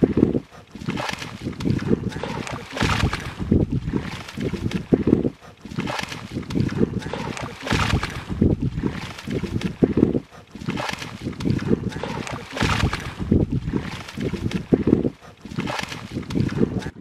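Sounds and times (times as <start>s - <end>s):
splashing in muddy water: 0.0s - 17.0s
wind buffeting microphone: 0.0s - 17.0s.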